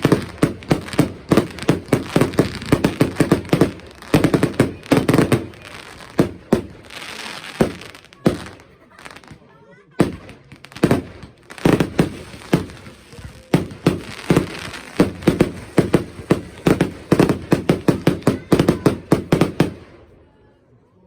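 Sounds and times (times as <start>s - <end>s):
fireworks bangs and cracks: 0.0s - 20.1s.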